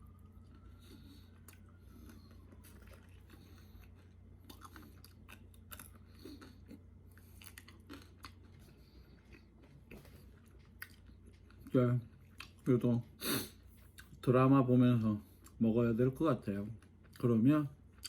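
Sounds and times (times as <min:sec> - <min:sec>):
chewing crunchy food: 0:00.0 - 0:13.0, 0:13.6 - 0:14.4, 0:15.0 - 0:18.0.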